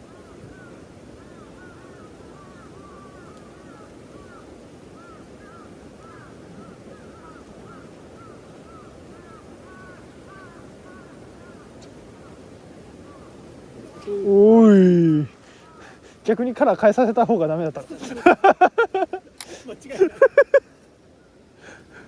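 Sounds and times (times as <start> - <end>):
birds calling: 0.0 - 22.0
low outdoor rush: 0.0 - 22.0.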